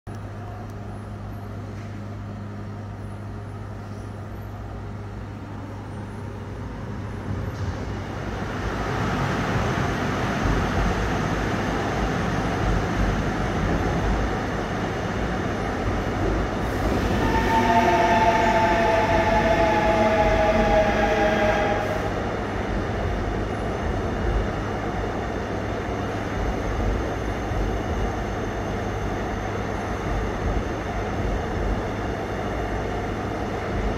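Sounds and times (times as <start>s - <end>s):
train wheels rumbling on rails: 0.2s - 33.9s.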